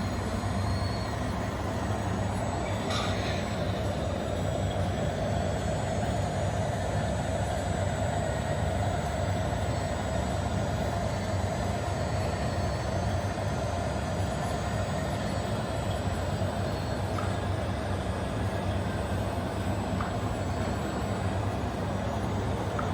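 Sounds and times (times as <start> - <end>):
model truck electric motors whirring: 0.0 - 22.9.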